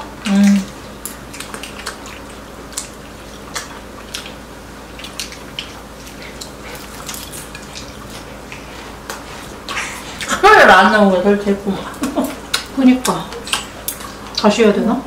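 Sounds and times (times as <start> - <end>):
chewing: 0.0 - 10.4, 11.8 - 14.6.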